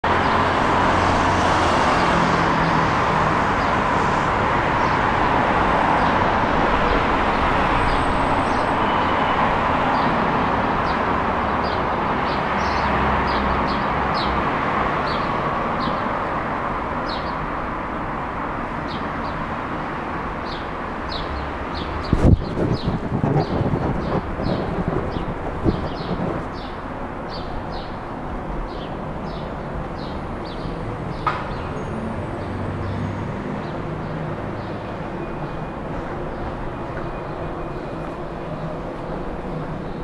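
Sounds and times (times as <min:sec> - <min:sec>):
city road traffic: 0:00.0 - 0:40.0.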